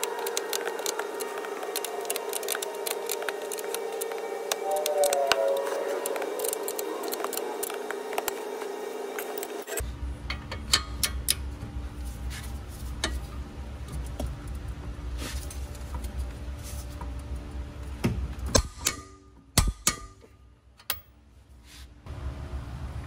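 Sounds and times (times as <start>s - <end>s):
low hum: 0.0s - 21.3s.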